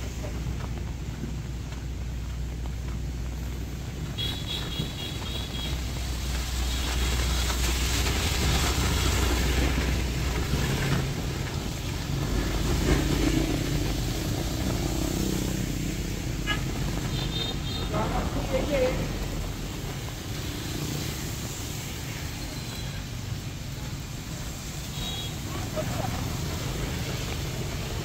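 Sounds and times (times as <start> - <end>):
engines rumbling: 0.0 - 28.0
heavy rain: 0.0 - 28.0
tyres hissing on wet road: 0.0 - 28.0.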